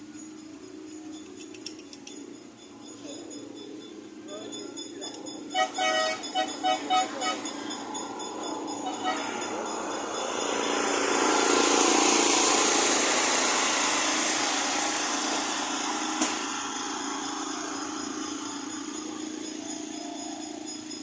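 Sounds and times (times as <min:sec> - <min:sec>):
train rumble and hiss: 0:00.0 - 0:21.0.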